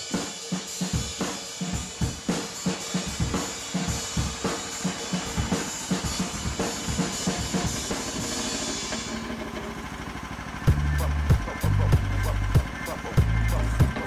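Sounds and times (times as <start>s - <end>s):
drum-led music: 0.0s - 14.0s.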